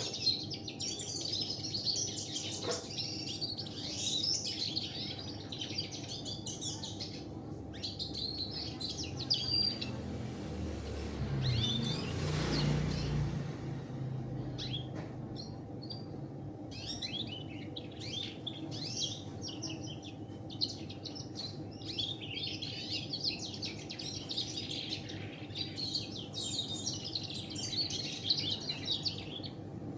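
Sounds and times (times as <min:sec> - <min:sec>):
canary singing: 0:00.0 - 0:29.8.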